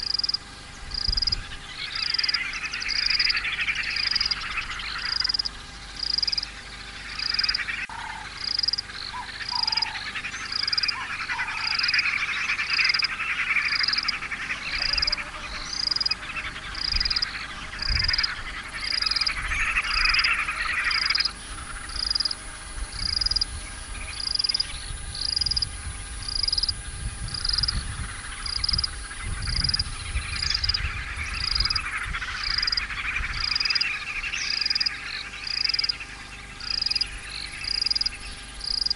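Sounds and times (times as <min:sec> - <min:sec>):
high frog call repeated: 0:00.0 - 0:00.4, 0:01.0 - 0:36.0, 0:36.6 - 0:38.9
chorus of frogs calling: 0:00.0 - 0:38.9.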